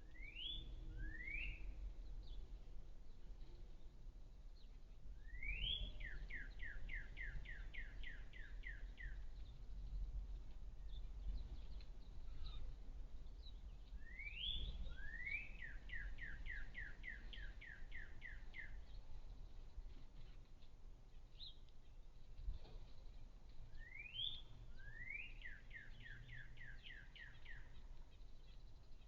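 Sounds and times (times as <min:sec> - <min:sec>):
faint low rumble: 0:00.0 - 0:29.0
songbird singing: 0:00.0 - 0:29.0.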